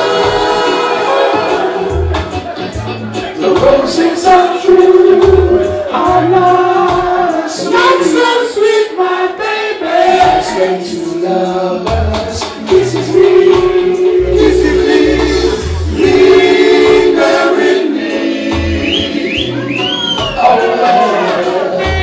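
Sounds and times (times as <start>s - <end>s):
male vocal group singing in harmony: 0.0s - 2.1s, 3.4s - 22.0s
reggae backing with pulsing bass: 0.0s - 22.0s.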